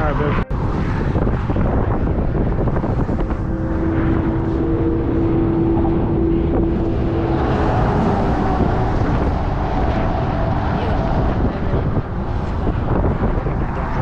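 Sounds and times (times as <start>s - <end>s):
wind buffeting microphone: 0.0s - 14.0s
steady hum-like tone: 0.4s - 14.0s.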